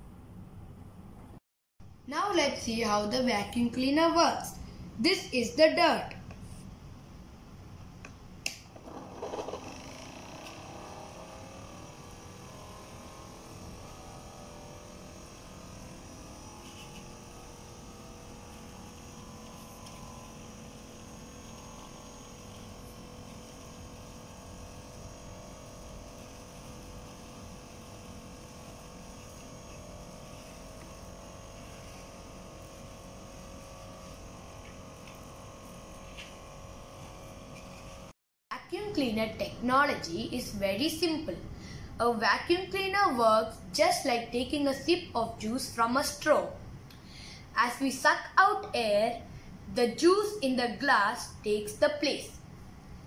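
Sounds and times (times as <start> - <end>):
small motor and fan humming: 2.4 - 38.2, 38.8 - 53.0.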